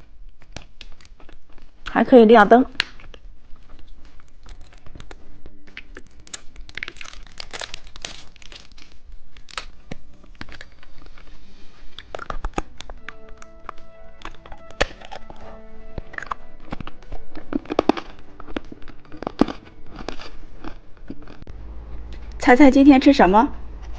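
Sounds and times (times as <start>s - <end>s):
plastic packaging crinkling: 0.0s - 1.9s, 2.7s - 21.5s.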